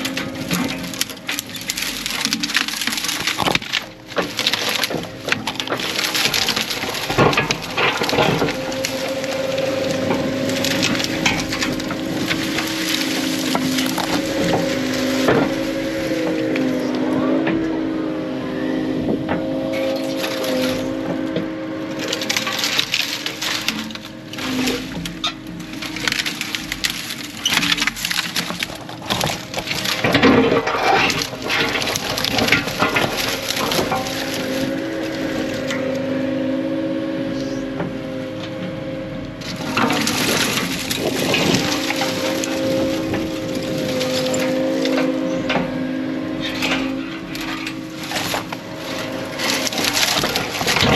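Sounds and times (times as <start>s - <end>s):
branches cracking and splintering: 0.0s - 50.9s
machine engine and hydraulic whine: 0.0s - 50.9s.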